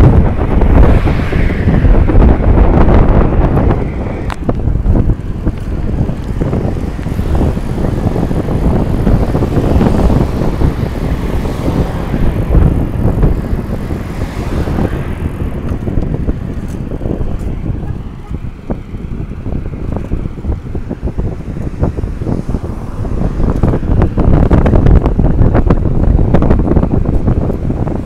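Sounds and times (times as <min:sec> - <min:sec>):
tyres rolling on asphalt: 0:00.0 - 0:28.0
wind buffeting microphone: 0:00.0 - 0:28.0.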